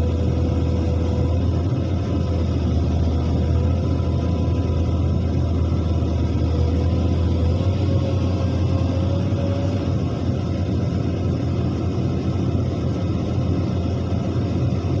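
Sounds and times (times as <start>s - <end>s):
faint wavering whine: 0.0s - 15.0s
heavy diesel machinery rumbling: 0.0s - 15.0s.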